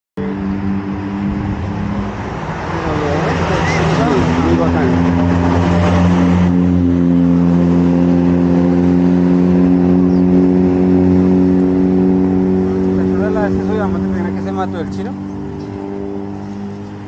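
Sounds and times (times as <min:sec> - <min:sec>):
engine running steadily: 0:00.2 - 0:17.0.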